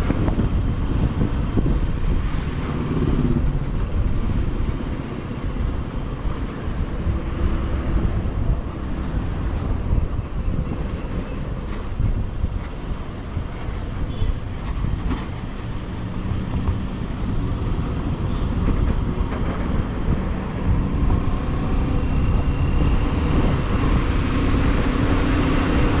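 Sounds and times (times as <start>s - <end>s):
wind and road rumble: 0.0s - 26.0s.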